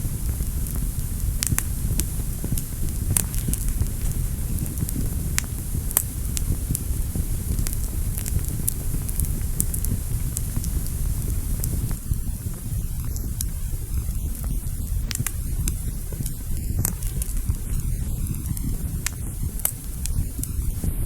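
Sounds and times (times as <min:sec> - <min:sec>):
fire crackling in a fireplace: 0:00.0 - 0:21.0.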